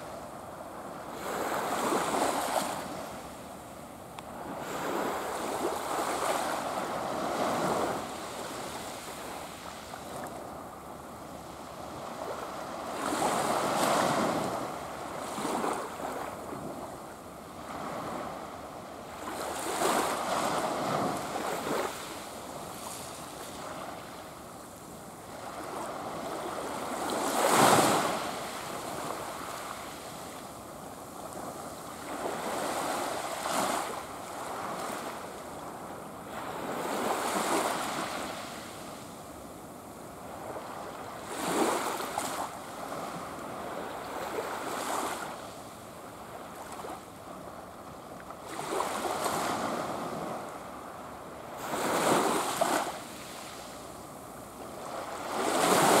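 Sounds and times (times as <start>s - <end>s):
waves washing up a beach: 0.0s - 56.0s.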